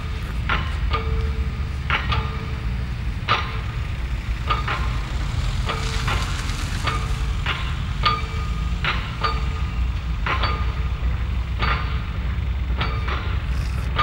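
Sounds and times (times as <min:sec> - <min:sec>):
low rumble of traffic: 0:00.0 - 0:14.0
metallic clanks: 0:00.0 - 0:14.0.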